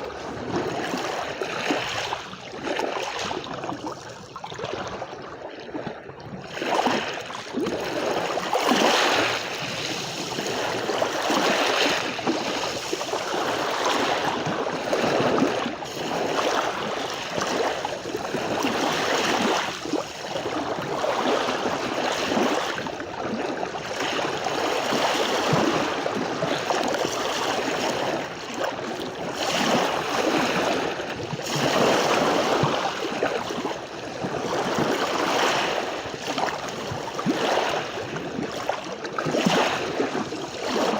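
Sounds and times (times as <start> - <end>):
sea waves breaking on beach: 0.0 - 5.8, 6.5 - 40.9.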